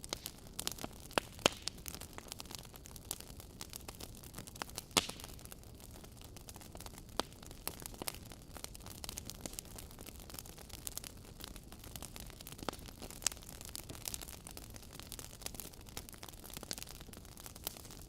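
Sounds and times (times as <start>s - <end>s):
wood fire crackling: 0.0s - 18.0s
burning logs rumbling: 0.1s - 18.0s.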